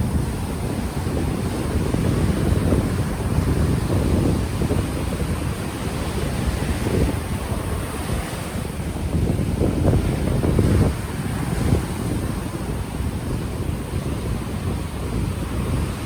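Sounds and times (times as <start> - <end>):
ocean waves washing ashore: 0.0 - 16.0
wind buffeting microphone: 0.0 - 16.0.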